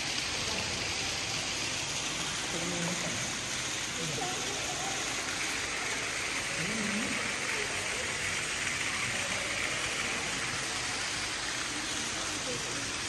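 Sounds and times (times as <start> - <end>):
rushing water: 0.0 - 13.0
faint voices: 2.2 - 13.0.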